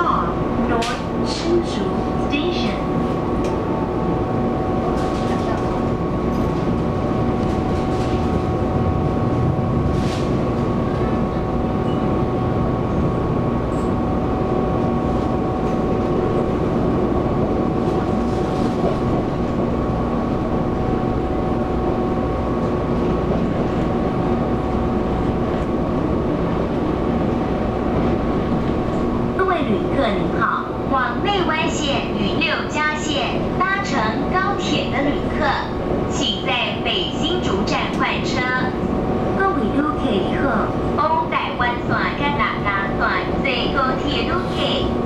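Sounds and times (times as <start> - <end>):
train wheels rumbling on track: 0.0 - 45.0.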